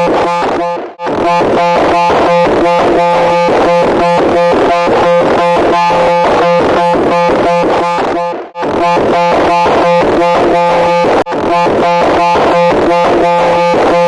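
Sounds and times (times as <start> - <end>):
harsh pulsing buzz: 0.0 - 14.0.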